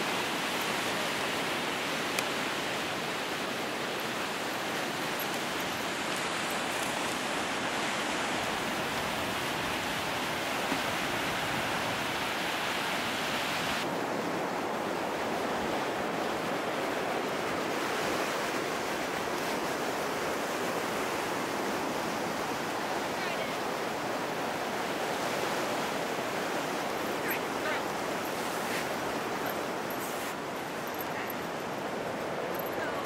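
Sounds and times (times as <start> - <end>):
surf washing on beach: 0.0 - 33.0.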